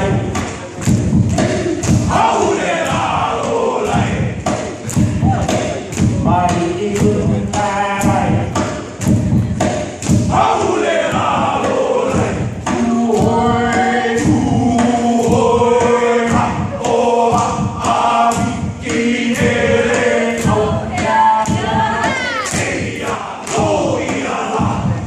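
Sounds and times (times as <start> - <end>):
dancers thumping: 0.0 - 25.0
group chanting and singing: 0.0 - 25.0.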